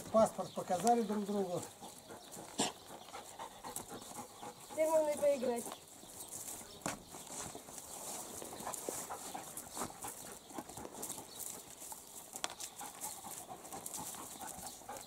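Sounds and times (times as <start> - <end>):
dog paws scuffing and clicking: 0.0 - 15.0.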